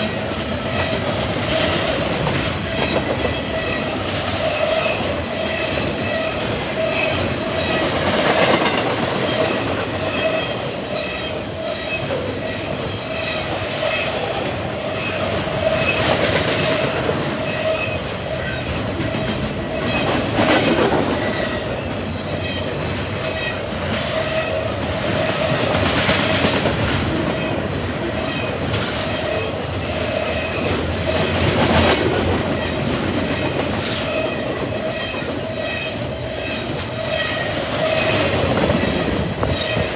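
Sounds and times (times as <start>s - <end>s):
freight train cars rolling past: 0.0s - 39.9s
ringing tone from wheels and rails: 0.0s - 39.9s
wheels clacking over rail joints: 0.0s - 39.9s.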